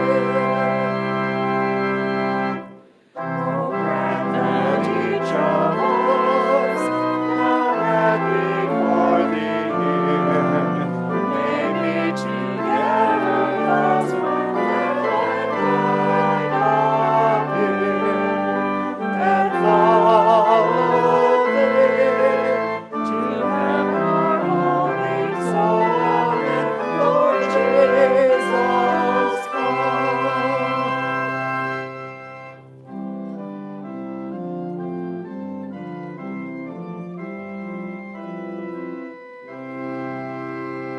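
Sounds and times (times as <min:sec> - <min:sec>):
church organ playing: 0:00.0 - 0:40.9.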